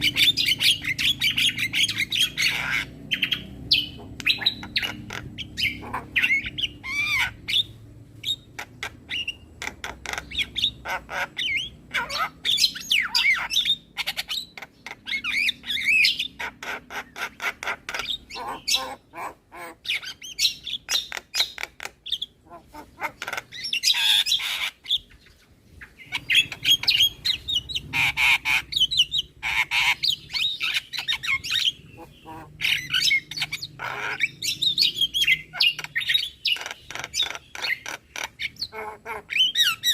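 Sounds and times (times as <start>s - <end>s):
bird squawking and whistling: 0.0s - 25.1s, 25.9s - 39.9s.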